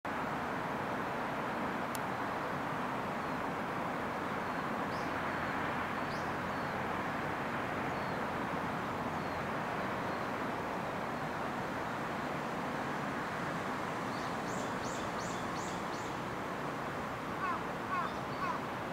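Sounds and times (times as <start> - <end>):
outdoor background hiss and rumble: 0.1 - 18.9.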